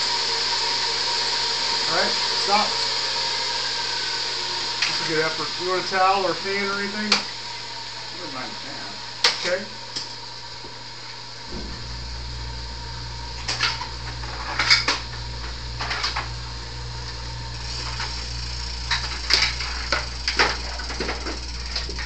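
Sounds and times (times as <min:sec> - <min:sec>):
low electric hum: 0:00.0 - 0:22.0.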